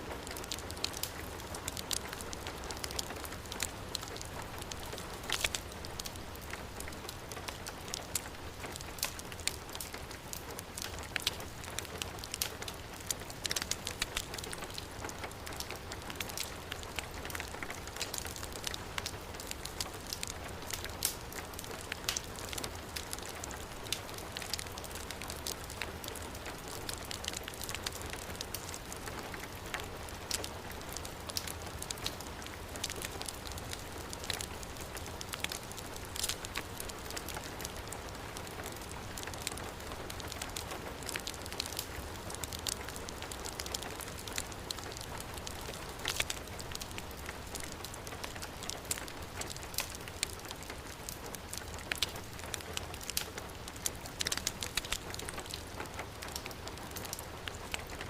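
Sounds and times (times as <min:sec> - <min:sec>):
fireplace fire crackling: 0:00.0 - 0:58.0
heavy rain falling: 0:00.1 - 0:58.0.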